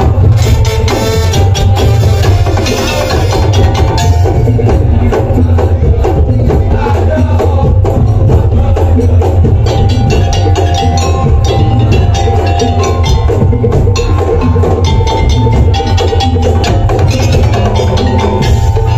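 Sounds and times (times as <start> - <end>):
percussion ensemble playing fast music: 0.0 - 18.9.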